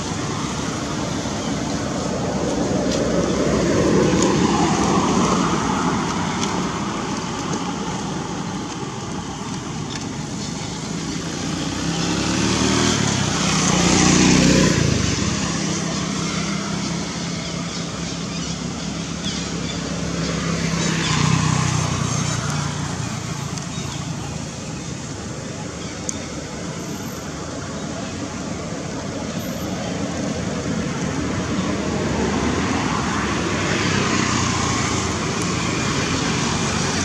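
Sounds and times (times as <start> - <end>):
traffic hiss: 0.0 - 37.0.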